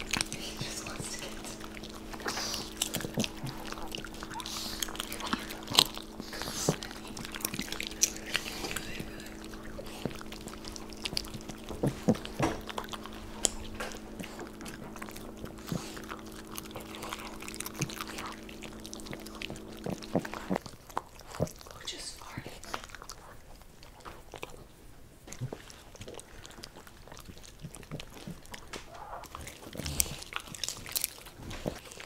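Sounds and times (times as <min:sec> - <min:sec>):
dogs crunching popcorn: 0:00.0 - 0:32.0
low electrical hum: 0:00.0 - 0:32.0.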